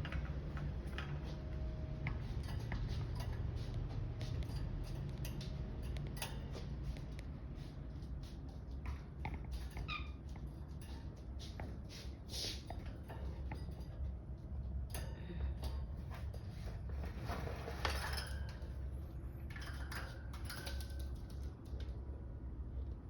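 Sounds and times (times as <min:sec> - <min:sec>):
birds moving in cage clicking: 0:00.0 - 0:07.4, 0:08.1 - 0:22.2
steady low hum: 0:00.0 - 0:23.0.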